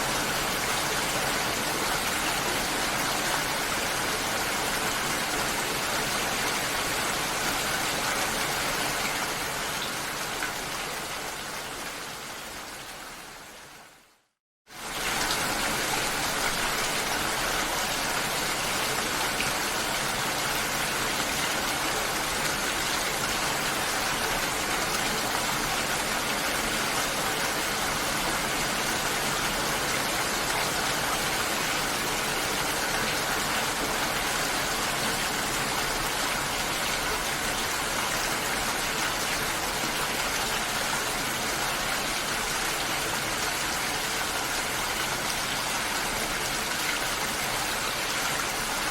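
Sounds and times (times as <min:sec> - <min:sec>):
steady hiss of water: 0:00.0 - 0:48.9.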